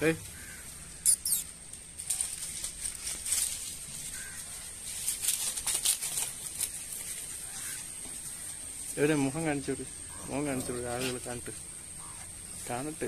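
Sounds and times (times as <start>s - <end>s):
dry palm fronds crackling: 0.0s - 13.0s.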